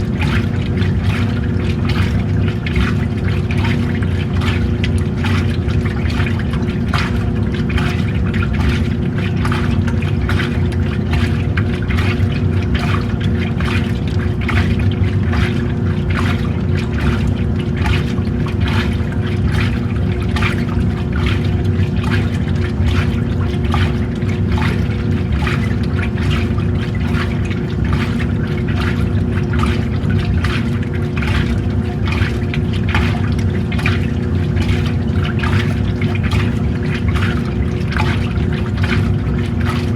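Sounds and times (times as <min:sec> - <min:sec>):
washing machine motor hum: 0:00.0 - 0:39.9
water and clothes sloshing: 0:00.0 - 0:39.9.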